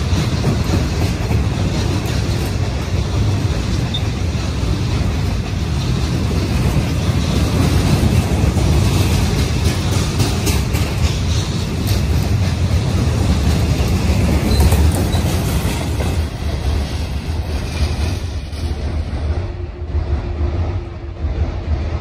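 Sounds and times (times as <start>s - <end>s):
train wheels clicking over rails: 0.0s - 22.0s.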